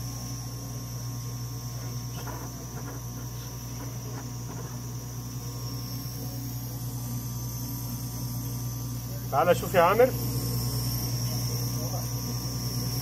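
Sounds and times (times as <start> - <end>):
analyzer running hum: 0.0 - 13.0
high-pitched whine: 0.0 - 13.0.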